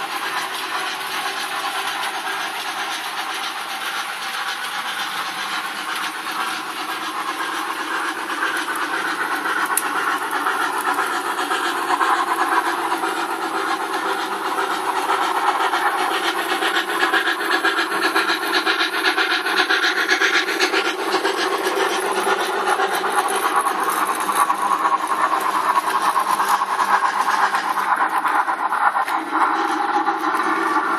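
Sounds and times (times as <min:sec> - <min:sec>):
model train clattering: 0:00.0 - 0:30.9.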